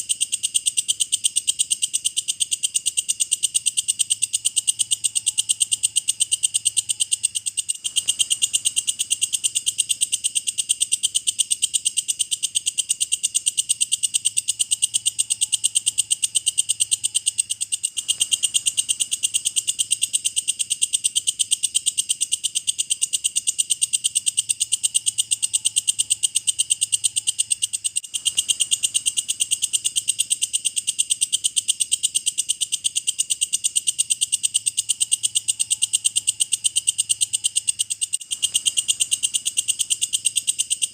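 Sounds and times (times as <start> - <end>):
insect chirring: 0.0 - 40.9.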